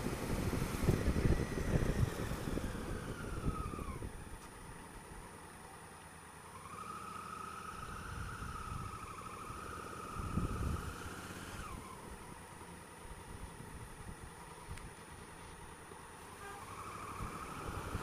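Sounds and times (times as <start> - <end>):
motorcycle engine rumble: 0.0 - 18.0.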